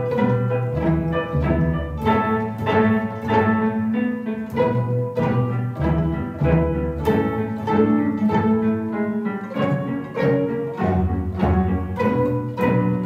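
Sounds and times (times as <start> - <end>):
plucked violins: 0.0 - 13.0
string orchestra playing: 0.0 - 13.0.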